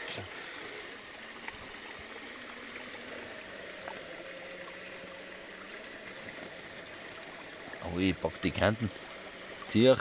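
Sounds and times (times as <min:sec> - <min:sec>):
faint electric motor hum: 0:00.0 - 0:10.0
stream and waterfall rushing: 0:00.0 - 0:10.0.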